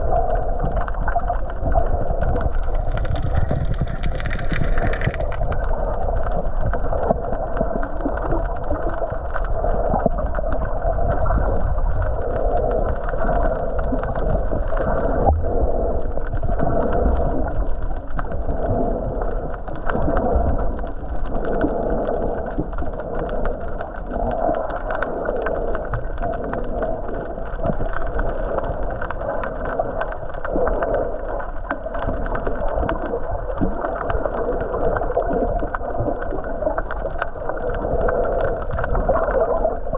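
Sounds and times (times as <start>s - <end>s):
muffled underwater drone: 0.0s - 39.9s
water surging and gurgling: 0.0s - 39.9s.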